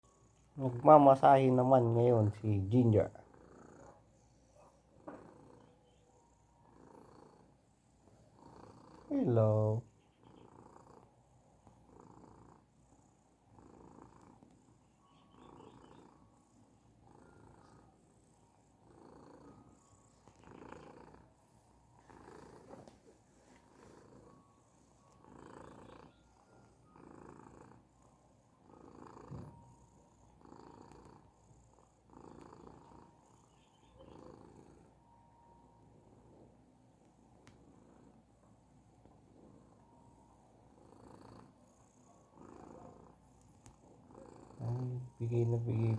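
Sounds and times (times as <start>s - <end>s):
cat purring: 0.0s - 45.9s.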